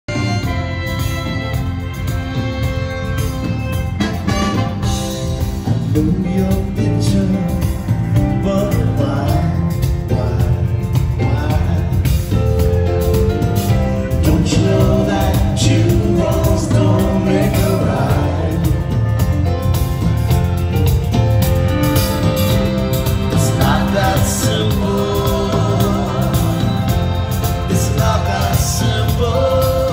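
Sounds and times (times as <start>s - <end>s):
live band playing loudly: 0.0s - 29.9s
person singing: 0.1s - 19.5s, 23.0s - 29.9s.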